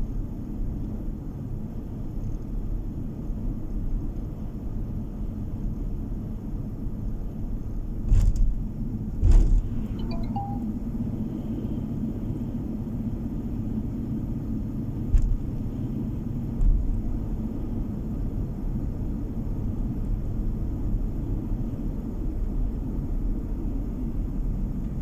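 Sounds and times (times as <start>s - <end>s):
car road and engine rumble: 0.0s - 10.0s, 10.9s - 25.0s.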